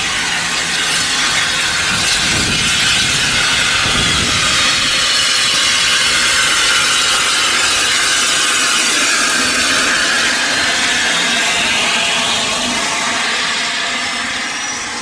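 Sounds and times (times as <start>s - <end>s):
steam train hissing: 0.0s - 15.0s.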